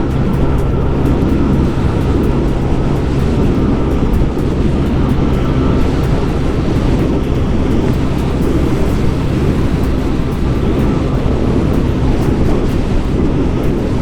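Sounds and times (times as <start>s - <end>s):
scooter engine running: 0.0s - 14.0s
wind noise: 0.0s - 14.0s.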